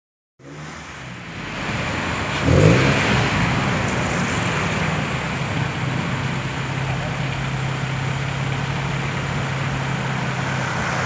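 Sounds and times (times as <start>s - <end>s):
car engine idling: 0.4s - 11.0s
car engine revving: 0.4s - 11.0s.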